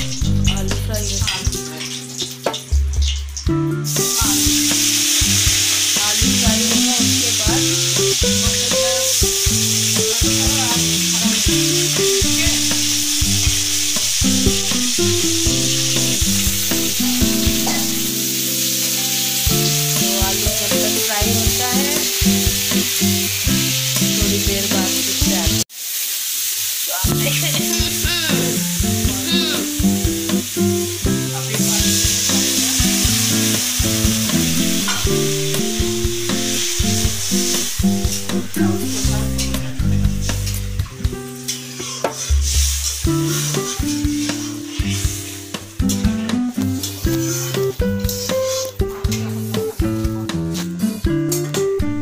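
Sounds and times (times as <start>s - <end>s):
soft background music: 0.0s - 25.7s, 27.1s - 52.0s
potato wedges sizzling in oil: 0.0s - 52.0s.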